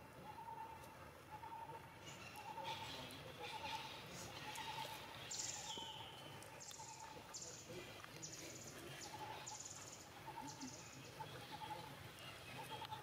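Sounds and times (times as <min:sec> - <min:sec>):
faint bird calls: 0:00.2 - 0:13.0.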